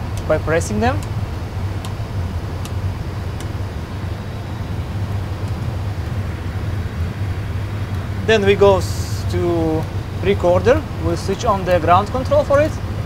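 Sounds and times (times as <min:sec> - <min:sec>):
low cockpit hum: 0:00.0 - 0:13.0.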